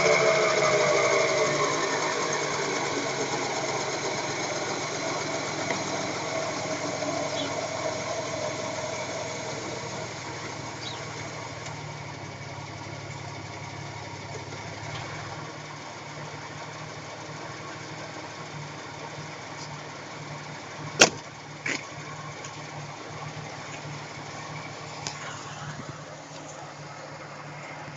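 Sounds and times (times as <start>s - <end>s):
car driving with low drone: 0.0s - 27.9s.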